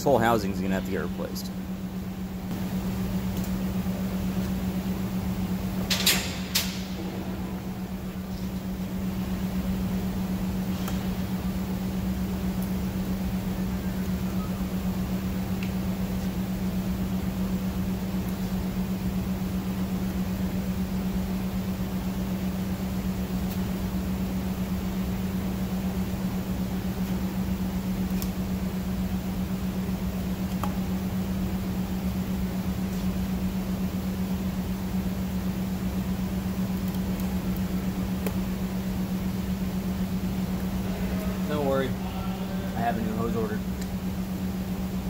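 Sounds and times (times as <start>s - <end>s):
mechanical hum: 0.0s - 45.0s.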